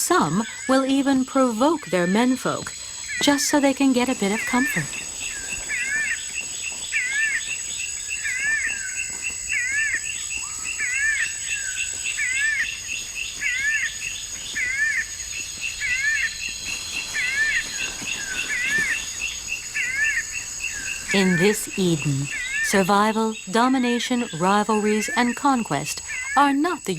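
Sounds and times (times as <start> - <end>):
high insect drone: 0.0 - 26.9
fast insect chirping: 0.1 - 26.9.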